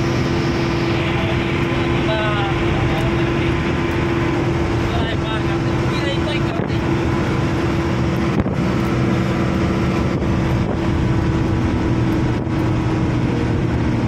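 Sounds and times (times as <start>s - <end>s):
road and wind noise: 0.0s - 14.0s
truck engine humming: 0.0s - 14.0s.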